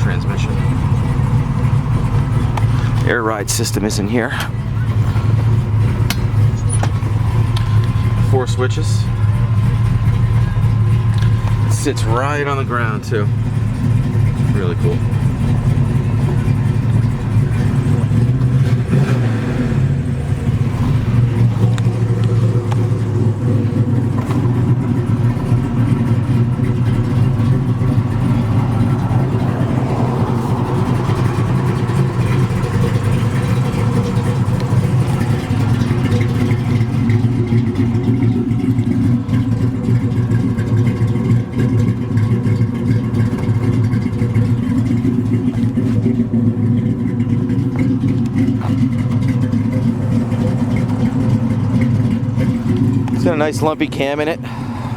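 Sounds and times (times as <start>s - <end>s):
car engine idling lumpily: 0.0s - 54.9s.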